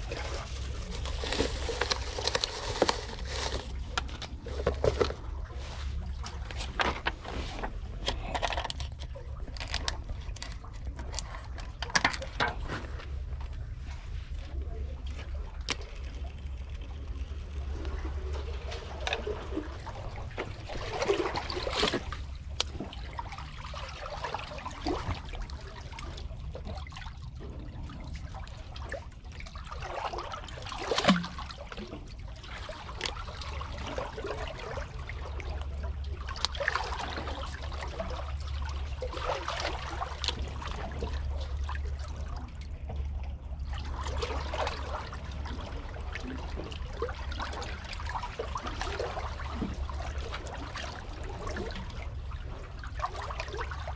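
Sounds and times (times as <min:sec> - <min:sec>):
seawater sloshing and trickling: 0:00.0 - 0:53.9.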